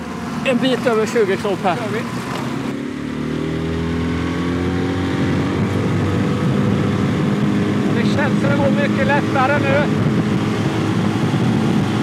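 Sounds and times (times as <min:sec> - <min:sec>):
outboard motor at full throttle: 0:00.0 - 0:12.0.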